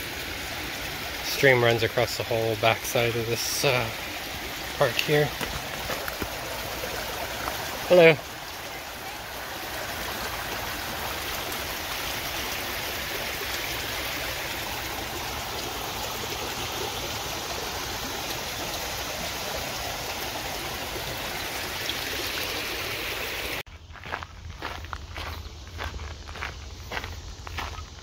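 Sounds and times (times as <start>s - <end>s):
creek water splashing over rocks: 0.0s - 23.6s.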